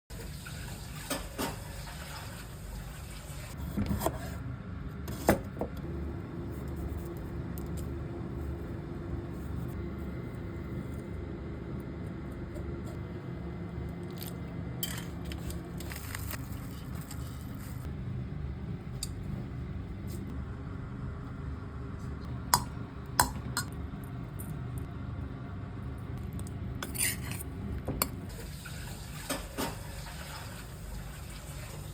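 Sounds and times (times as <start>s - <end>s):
microwave oven humming: 0.1s - 31.9s.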